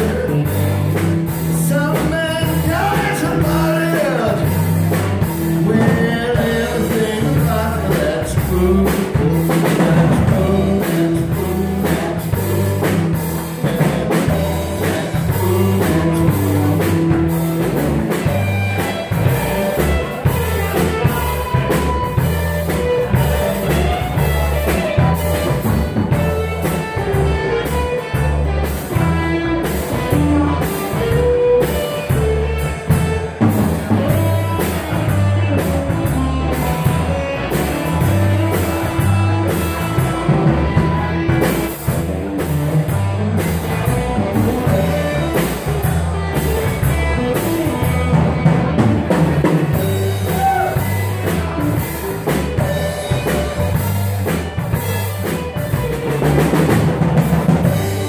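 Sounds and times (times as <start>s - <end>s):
acoustic bass guitar: 0.0s - 58.0s
drums keeping a steady beat: 0.0s - 58.0s
electric guitar lines: 0.0s - 58.0s.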